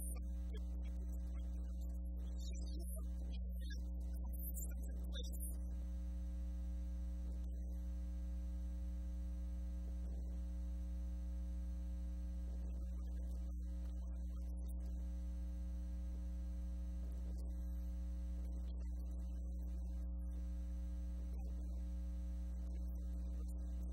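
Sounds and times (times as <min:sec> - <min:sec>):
electrical mains hum: 0:00.0 - 0:23.9.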